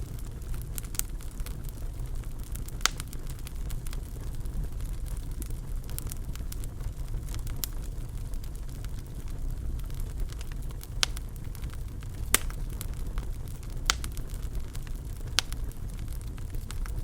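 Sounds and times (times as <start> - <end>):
fire crackling: 0.0 - 17.0
low rumble of flames: 0.0 - 17.0.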